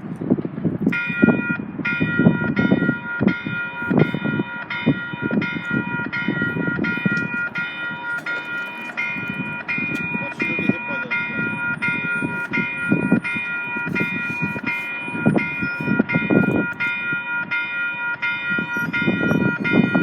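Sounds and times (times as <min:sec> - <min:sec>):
wind noise on microphone: 0:00.0 - 0:20.0
level crossing warning bell: 0:00.9 - 0:20.0.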